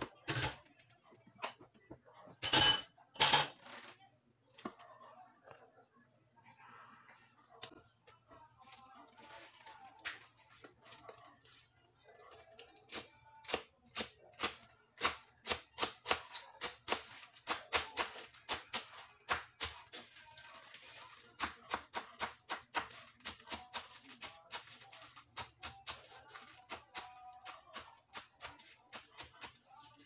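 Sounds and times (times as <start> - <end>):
faint music: 0.0 - 30.0.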